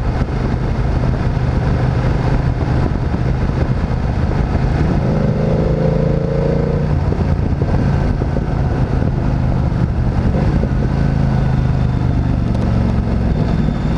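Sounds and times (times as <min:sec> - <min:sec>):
motorcycle engine running: 0:00.0 - 0:13.9
rising whine: 0:00.0 - 0:13.9.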